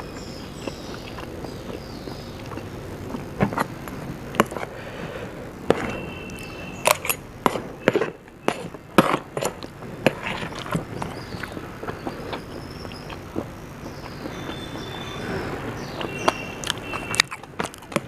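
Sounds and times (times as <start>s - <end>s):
mouth clicks: 0.0s - 18.0s
person chewing crunchy food: 0.0s - 18.0s.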